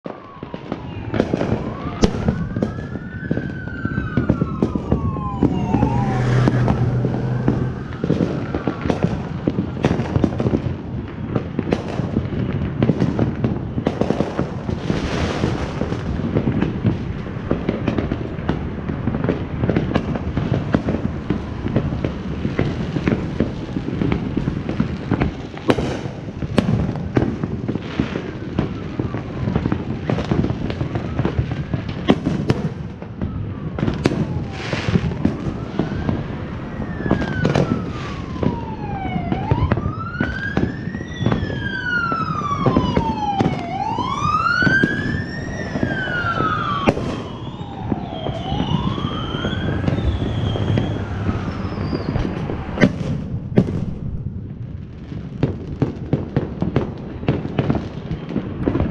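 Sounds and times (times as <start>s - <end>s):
emergency siren wailing: 0.0s - 58.9s
fireworks crackling and popping: 0.0s - 58.9s.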